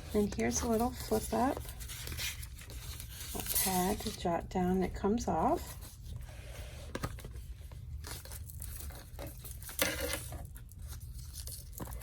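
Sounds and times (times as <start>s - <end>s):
paper and card rustling: 0.0s - 12.0s.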